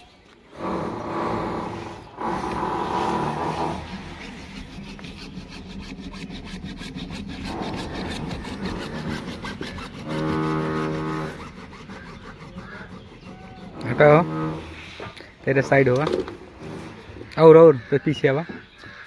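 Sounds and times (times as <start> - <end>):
hacksaw cutting plastic pipe: 0.5 - 17.4
low droning tone: 0.6 - 17.4.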